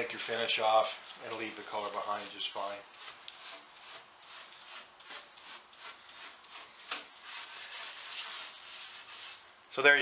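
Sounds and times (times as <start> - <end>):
steel wool scrubbing wood: 0.6 - 9.5.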